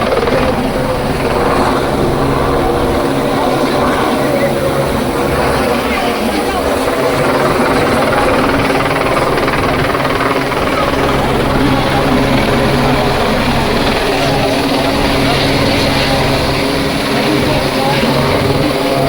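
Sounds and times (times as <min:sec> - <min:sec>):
helicopter flying overhead: 0:00.0 - 0:19.0
voices: 0:00.0 - 0:19.0.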